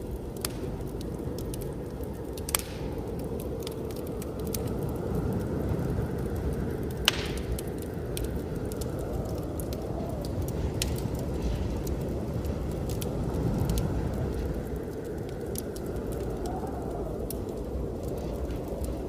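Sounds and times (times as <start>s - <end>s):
blizzard wind rushing: 0.0s - 19.0s
wood fire crackling and popping: 0.0s - 19.0s.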